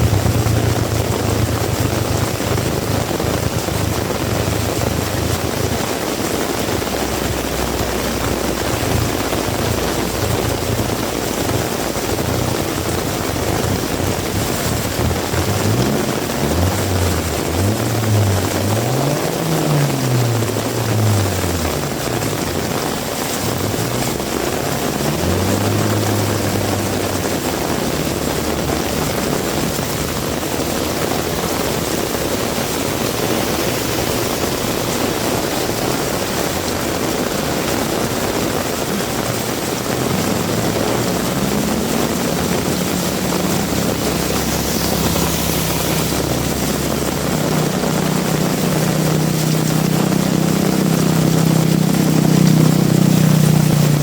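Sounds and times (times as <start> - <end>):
heavy rain pouring: 0.0 - 54.0
vehicle engines passing: 0.0 - 54.0.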